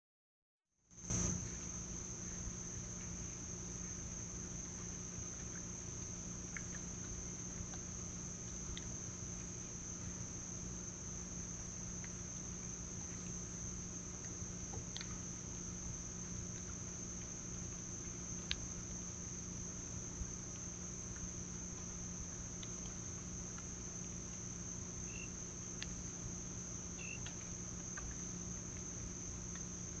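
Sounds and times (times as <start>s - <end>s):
faint low hum: 0.9s - 30.0s
crickets trilling: 1.0s - 30.0s.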